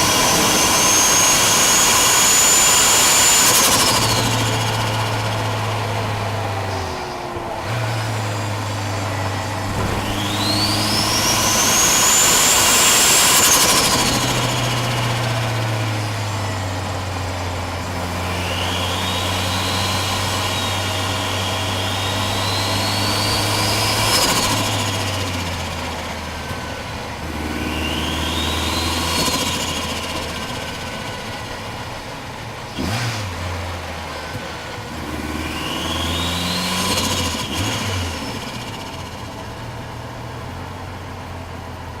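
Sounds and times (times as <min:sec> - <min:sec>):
car engine revving hard: 0:00.0 - 0:39.6.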